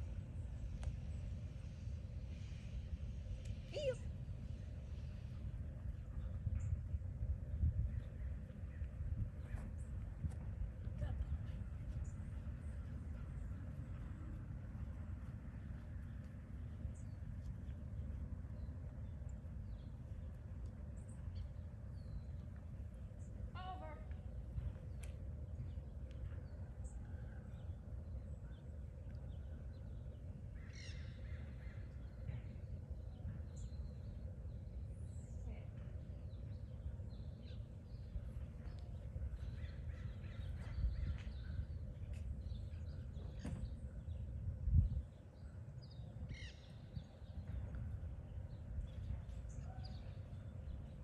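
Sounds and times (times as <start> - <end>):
low outdoor rumble: 0.0 - 51.0.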